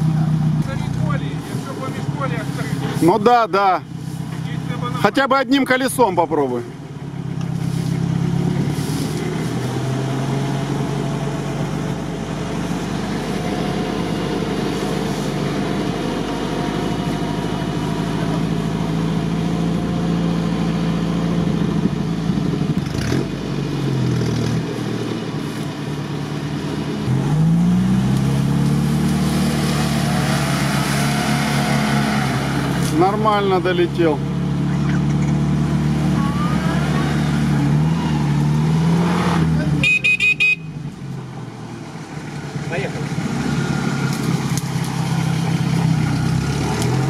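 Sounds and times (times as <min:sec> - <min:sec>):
off-road vehicle engine revving: 0:00.0 - 0:47.0.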